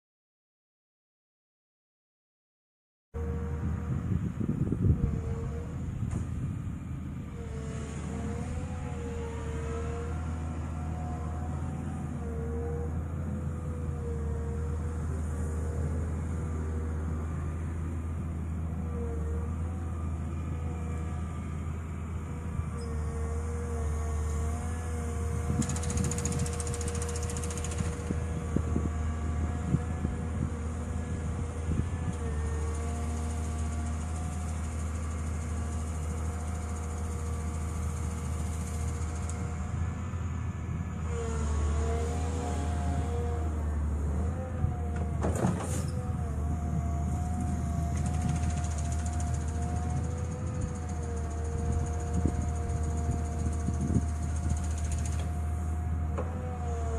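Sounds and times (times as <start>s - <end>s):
diesel engine droning: 3.2s - 56.9s
hydraulic whine: 7.2s - 17.3s, 18.8s - 40.3s, 40.9s - 56.9s.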